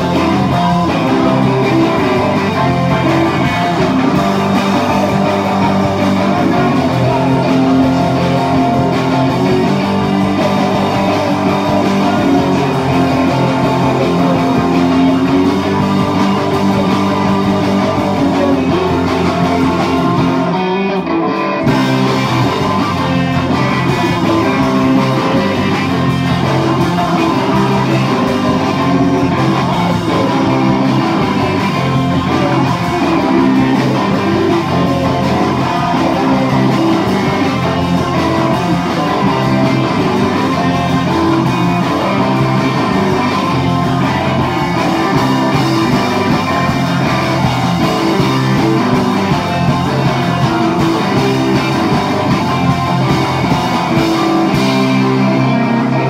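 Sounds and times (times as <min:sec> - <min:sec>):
electric guitar: 0:00.0 - 0:56.0
live rock band playing: 0:00.0 - 0:56.0.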